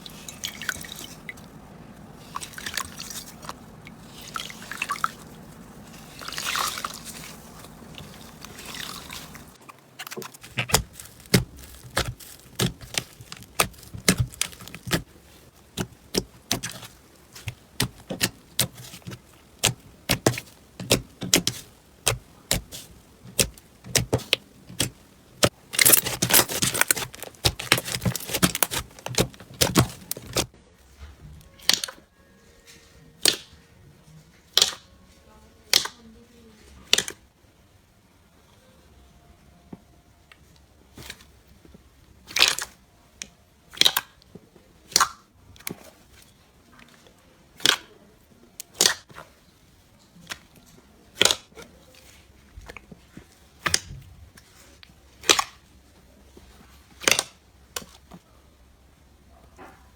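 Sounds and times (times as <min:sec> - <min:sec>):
slime squelching: 0:00.0 - 0:30.6, 0:31.4 - 0:32.1, 0:40.8 - 0:58.3.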